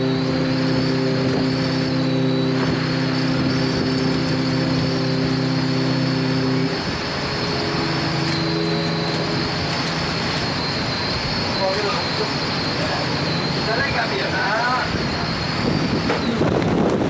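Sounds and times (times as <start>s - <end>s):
ship steam whistle blasts: 0.0s - 16.5s
steady rushing noise: 0.0s - 17.0s.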